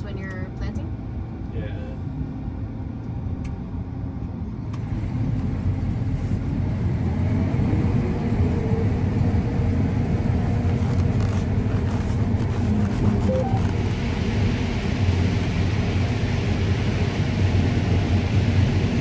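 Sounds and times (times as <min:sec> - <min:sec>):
combine harvester rumbling: 0:00.0 - 0:19.0.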